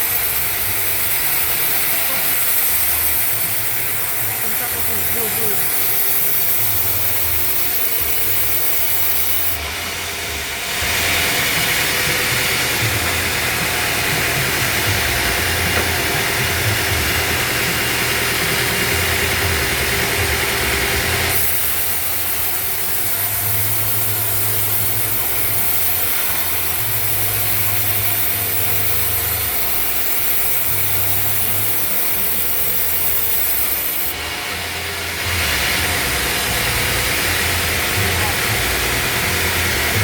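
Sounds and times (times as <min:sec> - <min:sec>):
sawmill saw cutting wood: 0:00.0 - 0:40.0.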